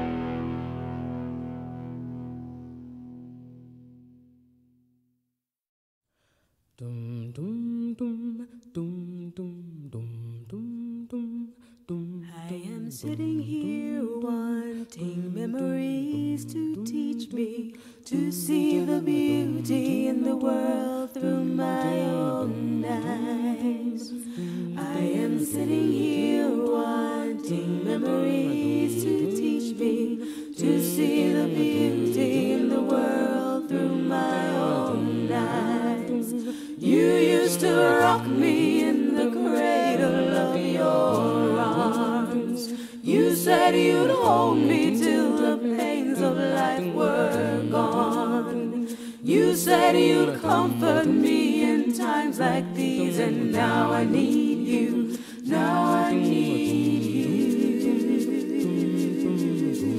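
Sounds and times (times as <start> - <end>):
voices singing a cappella: 6.8 - 59.9.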